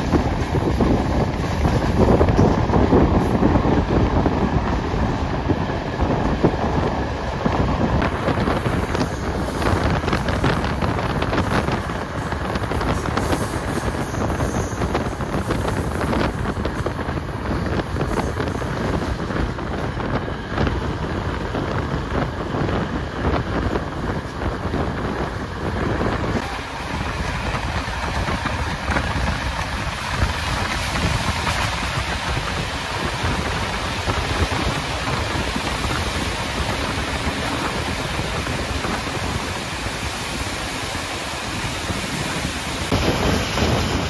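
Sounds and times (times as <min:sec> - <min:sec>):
moving train running noise: 0:00.0 - 0:44.0
wind buffeting microphone: 0:00.0 - 0:44.0.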